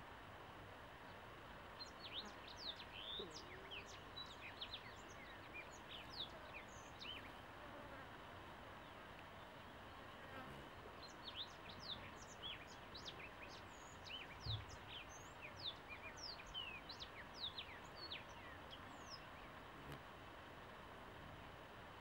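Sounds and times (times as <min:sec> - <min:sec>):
birds chirping: 0:01.0 - 0:07.5, 0:08.8 - 0:20.0.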